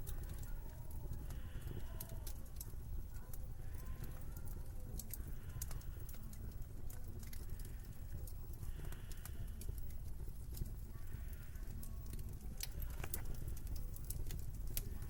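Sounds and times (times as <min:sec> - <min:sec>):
sharp clicks and crackles: 0:00.0 - 0:15.0.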